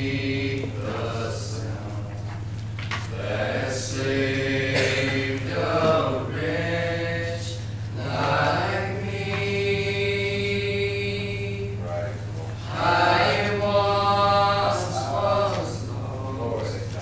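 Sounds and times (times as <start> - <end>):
young male voices singing: 0.0 - 2.1, 3.1 - 11.8, 12.6 - 17.0
steady low hum: 0.0 - 17.0.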